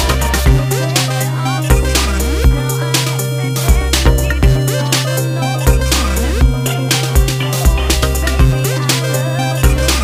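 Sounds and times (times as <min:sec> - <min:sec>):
music with deep bass and drums: 0:00.0 - 0:10.0.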